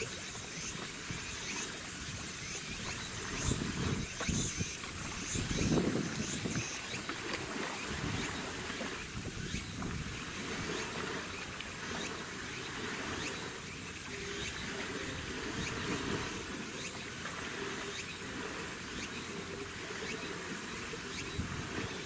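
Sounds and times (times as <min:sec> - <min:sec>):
insects chirping in pulses: 0:00.0 - 0:22.0
low rumble of boat traffic: 0:00.0 - 0:22.0.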